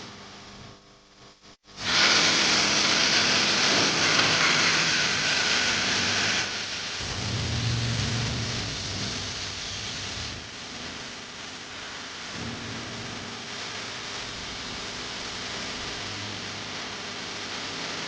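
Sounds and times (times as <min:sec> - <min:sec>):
frying sizzle in a pot: 0:01.7 - 0:18.0.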